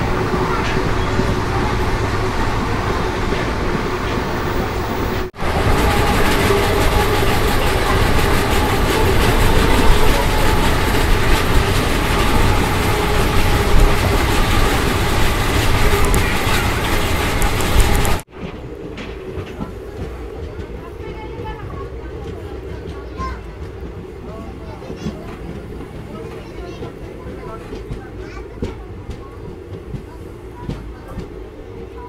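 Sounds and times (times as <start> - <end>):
train wheels rolling on track: 0.0 - 32.0.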